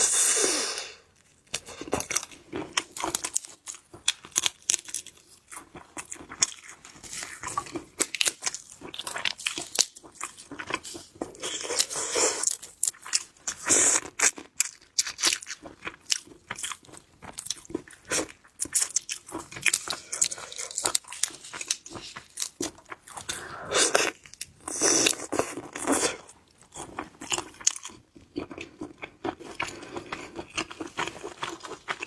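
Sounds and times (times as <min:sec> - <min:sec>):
chewing: 0:01.2 - 0:32.0.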